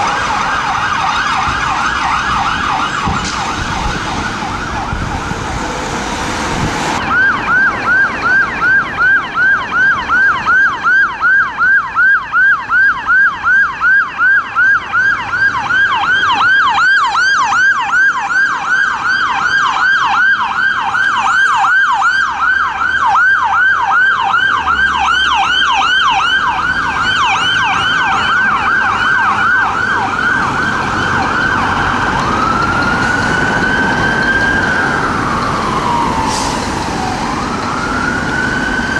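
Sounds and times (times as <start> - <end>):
emergency vehicle siren: 0.0 - 38.9.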